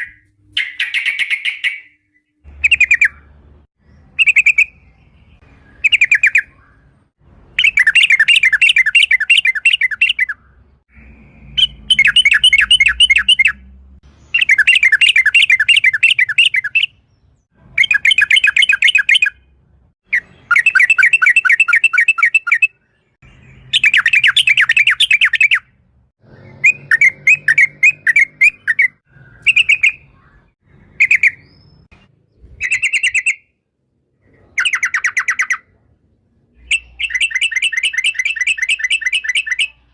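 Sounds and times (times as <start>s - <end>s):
bird singing rattling chirps: 0.0s - 33.5s, 36.6s - 39.9s.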